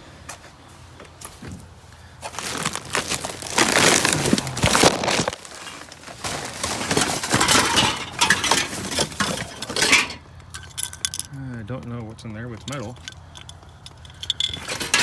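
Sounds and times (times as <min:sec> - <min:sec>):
junk clattering and crinkling: 0:00.3 - 0:15.0.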